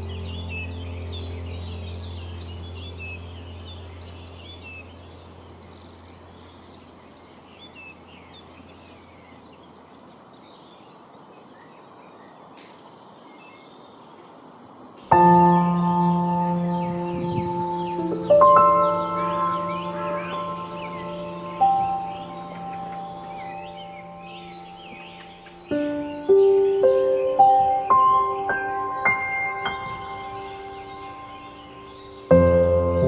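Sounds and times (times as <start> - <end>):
low music drone: 0.0 - 9.5, 15.0 - 33.0
songbirds chirping: 0.0 - 33.0.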